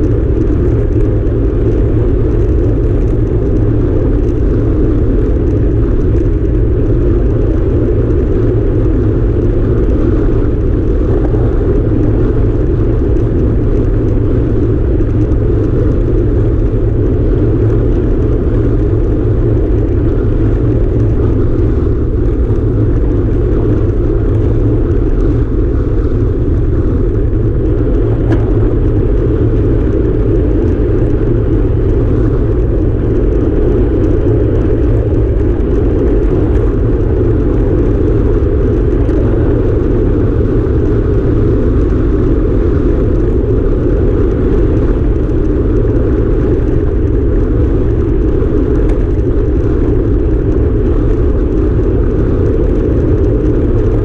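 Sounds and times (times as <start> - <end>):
bicycle tyres humming on asphalt: 0.0 - 54.0
wind rushing over microphone: 0.0 - 54.0.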